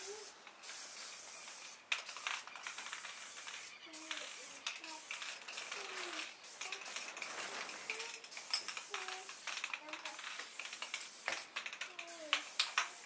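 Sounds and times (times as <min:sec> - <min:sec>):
spray paint can hissing: 0:00.0 - 0:13.0.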